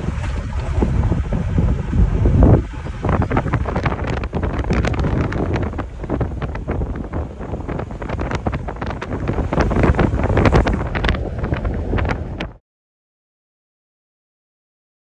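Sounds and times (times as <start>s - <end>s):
vehicle low rumble: 0.0s - 12.6s
wind buffeting microphone: 0.0s - 12.6s.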